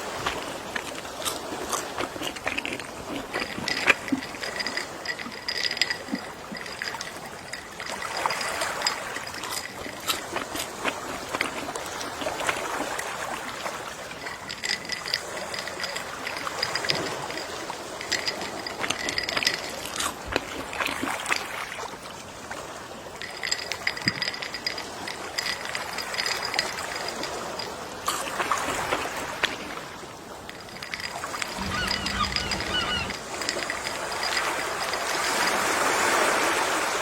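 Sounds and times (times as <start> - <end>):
sea waves lapping on shore: 0.0 - 37.0.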